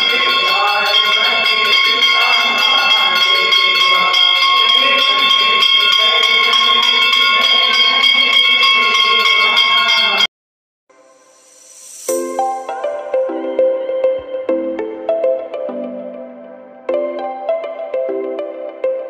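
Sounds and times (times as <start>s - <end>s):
temple bells ringing: 0.0s - 10.3s, 10.9s - 19.0s.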